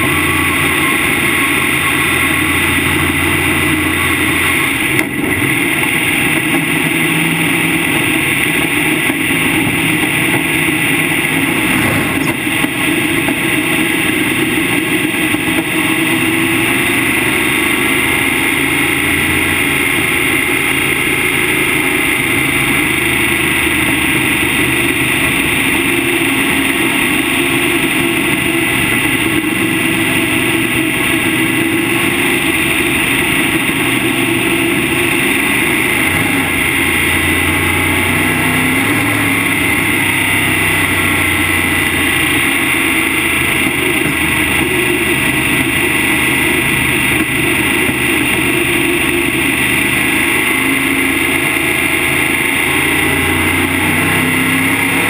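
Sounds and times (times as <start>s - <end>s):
race car engine running: 0.0s - 55.0s
road noise: 0.0s - 55.0s.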